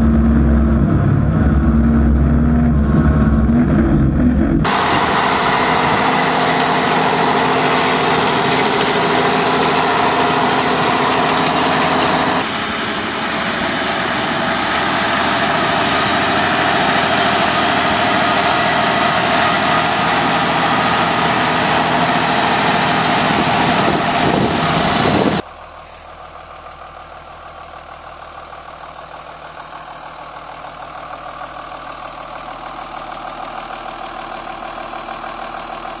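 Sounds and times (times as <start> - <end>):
tractor diesel engine running: 0.0 - 36.0
tractor engine idling: 0.0 - 36.0.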